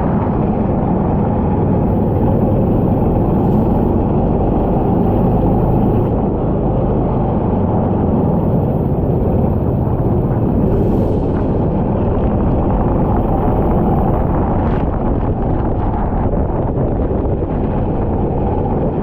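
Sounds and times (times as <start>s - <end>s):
kart engine running: 0.0s - 19.0s
wind buffeting microphone: 0.0s - 19.0s.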